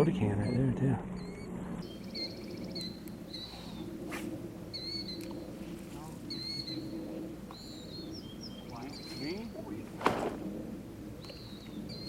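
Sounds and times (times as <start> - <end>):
bird chirping: 0.0 - 4.0, 4.7 - 10.4, 11.1 - 12.0.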